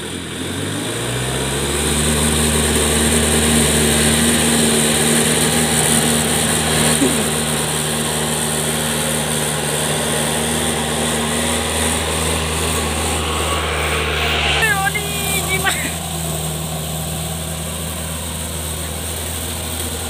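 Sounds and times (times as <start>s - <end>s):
engine running at steady revs: 0.0s - 20.0s.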